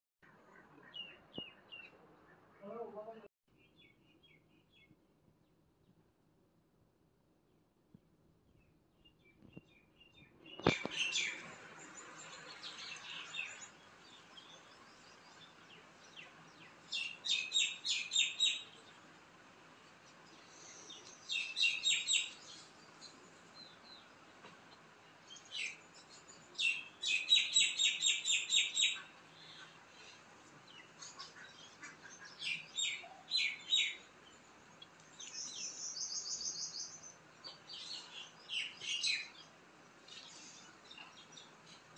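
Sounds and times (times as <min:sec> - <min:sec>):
small birds chirping: 0:00.2 - 0:06.0, 0:08.4 - 0:41.9.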